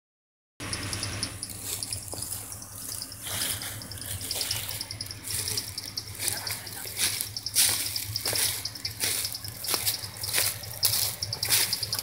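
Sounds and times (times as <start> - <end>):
insects calling: 0.6 - 12.0
footsteps in dry leaves: 1.3 - 12.0.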